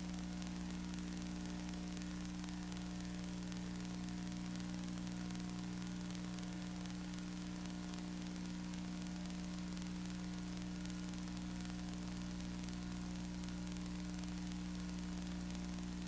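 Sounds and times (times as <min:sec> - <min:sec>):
low electrical hum: 0:00.0 - 0:16.0
steady hiss: 0:00.0 - 0:16.0.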